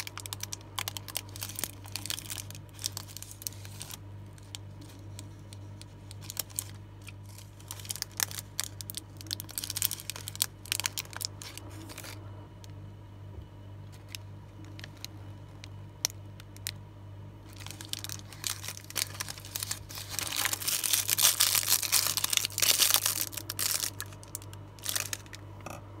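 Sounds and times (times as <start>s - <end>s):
foil wrappers crinkling: 0.0s - 12.2s, 13.9s - 16.8s, 17.4s - 25.5s.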